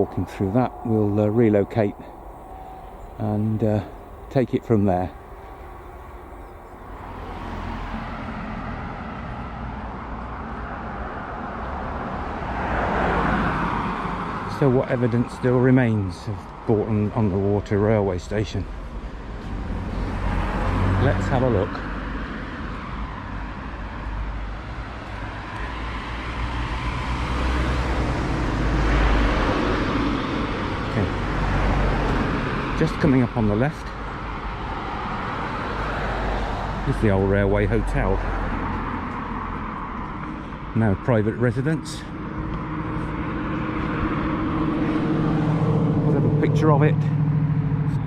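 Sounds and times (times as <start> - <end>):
vehicle passing close by: 0.0 - 16.1, 18.7 - 48.0
traffic rumble: 0.0 - 48.0.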